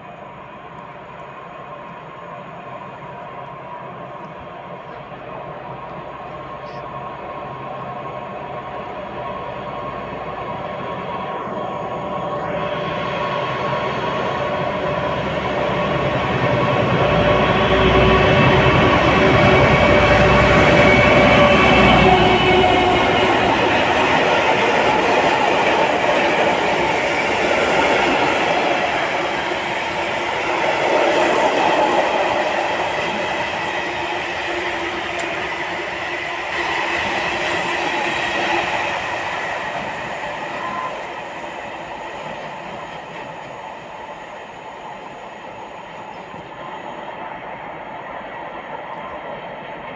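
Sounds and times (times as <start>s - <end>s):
freight train wheels rumbling: 0.0s - 49.9s.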